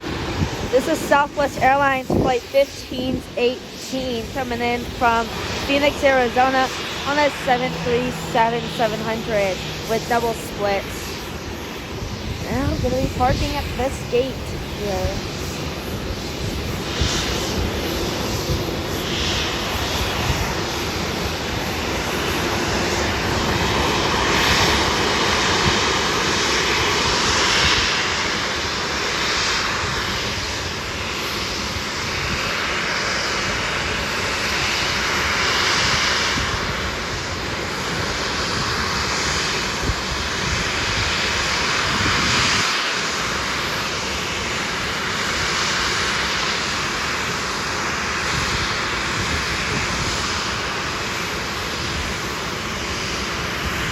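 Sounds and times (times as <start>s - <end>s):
jet engines idling: 0.0s - 53.9s.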